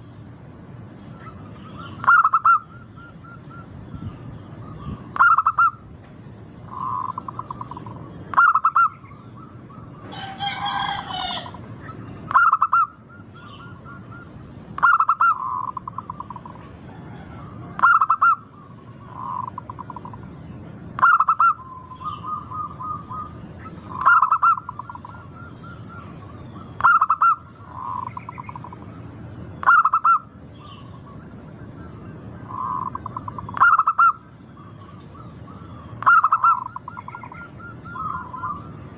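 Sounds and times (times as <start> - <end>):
low background hum: 0.0 - 38.9
dove cooing: 1.1 - 5.9, 6.7 - 20.3, 21.0 - 38.9.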